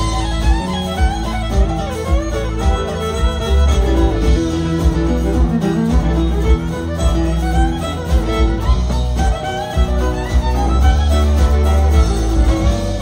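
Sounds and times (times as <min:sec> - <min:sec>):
fiddle melody: 0:00.0 - 0:13.0
steady low beat: 0:00.0 - 0:13.0
strummed guitars: 0:00.0 - 0:13.0.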